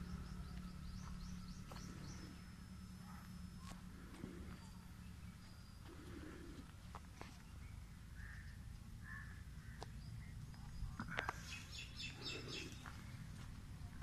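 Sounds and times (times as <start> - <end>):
birds chirping: 0.0 - 14.0
faint low rumble: 0.0 - 14.0.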